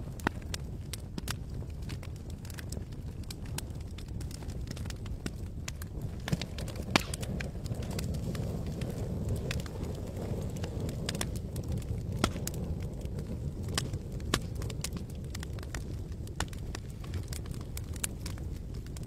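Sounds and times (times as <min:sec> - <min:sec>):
campfire crackling and popping: 0:00.0 - 0:19.0
fire low rumble: 0:00.0 - 0:19.0.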